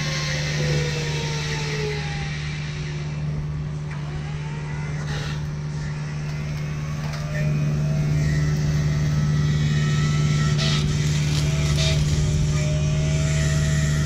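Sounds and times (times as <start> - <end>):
diesel engine running: 0.0 - 14.0
faint gliding whines: 0.0 - 14.0.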